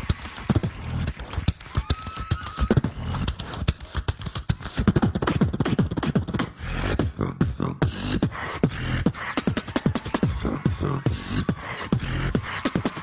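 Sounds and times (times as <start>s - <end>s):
person beatboxing: 0.0s - 13.0s.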